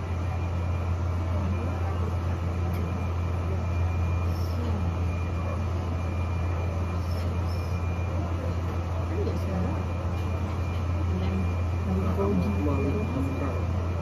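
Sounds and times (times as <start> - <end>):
faint voices murmuring: 0.0 - 14.0
steady low hum: 0.0 - 14.0.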